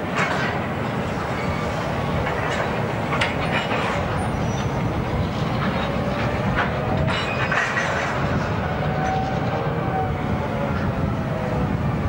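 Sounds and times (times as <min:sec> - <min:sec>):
rumble of wheels on track: 0:00.0 - 0:12.0.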